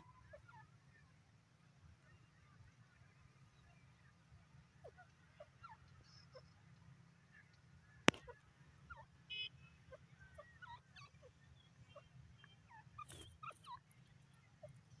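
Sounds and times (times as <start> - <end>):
francolins chirping: 0.0 - 15.0.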